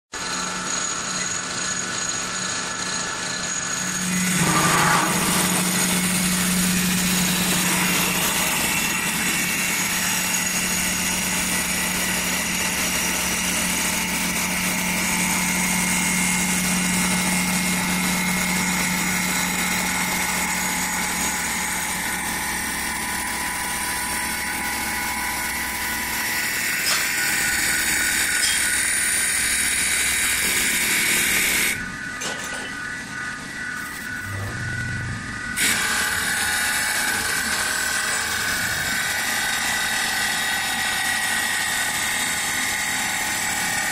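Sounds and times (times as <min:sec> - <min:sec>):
lathe machine hum: 0:00.2 - 0:32.2, 0:32.8 - 0:43.9
cutter shaving wood: 0:02.0 - 0:31.9, 0:35.5 - 0:43.9.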